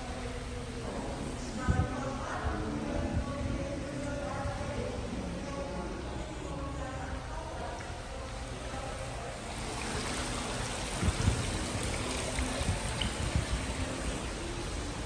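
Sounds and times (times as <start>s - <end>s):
indoor fountain splashing: 0.0s - 15.0s.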